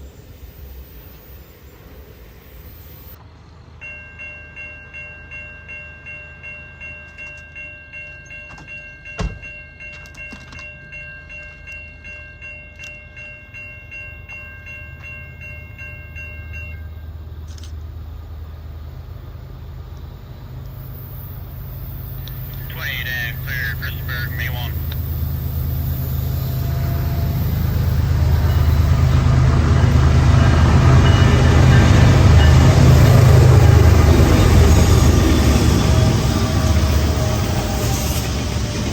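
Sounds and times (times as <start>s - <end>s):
diesel locomotive rumble: 6.4s - 38.9s.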